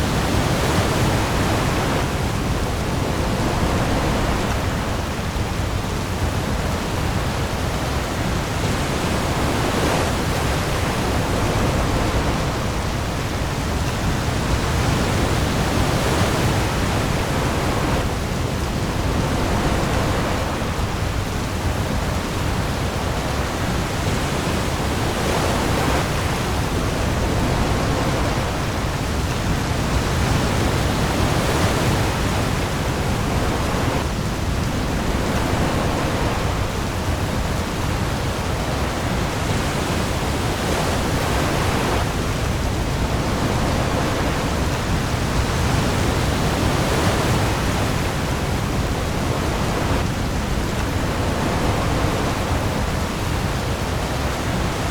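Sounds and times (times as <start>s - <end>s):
heavy rain on sea: 0.0s - 54.9s
waves washing: 0.0s - 54.9s.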